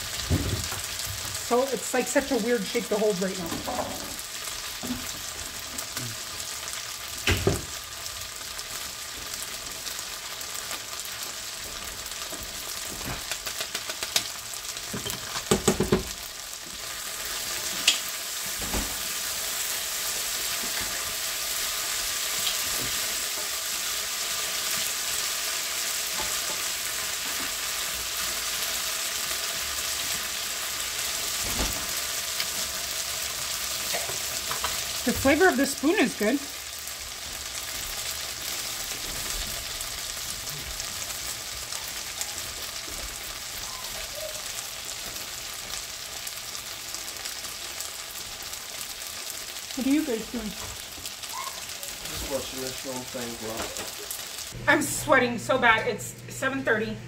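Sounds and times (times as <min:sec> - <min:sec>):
gnocchi sizzling in a skillet: 0:00.0 - 0:55.5.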